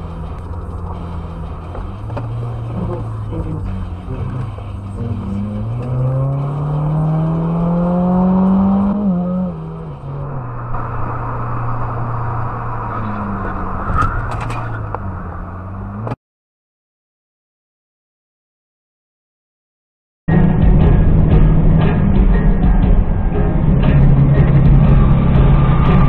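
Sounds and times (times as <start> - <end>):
car engine accelerating: 0.0 - 16.2, 20.3 - 26.0
road noise: 0.0 - 16.2, 20.3 - 26.0.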